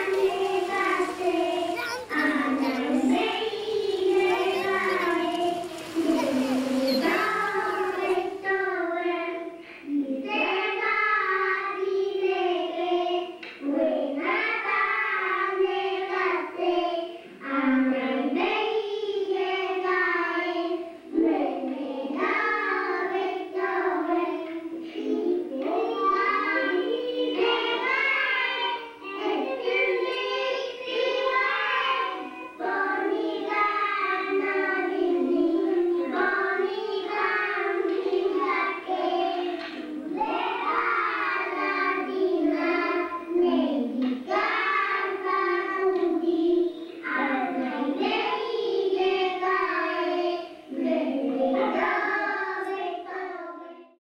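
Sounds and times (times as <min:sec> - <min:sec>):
child singing: 0:00.0 - 0:54.0.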